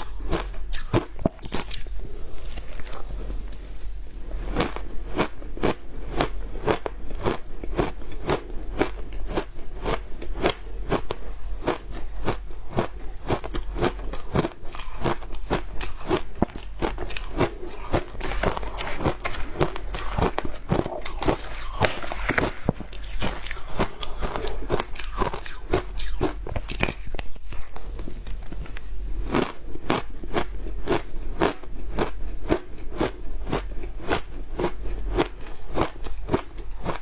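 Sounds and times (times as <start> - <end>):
ice crunching while chewed: 0.0 - 37.0.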